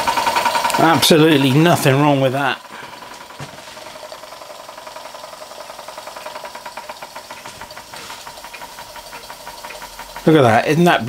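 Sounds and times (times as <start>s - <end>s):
model steam engine puffing: 0.0s - 11.0s.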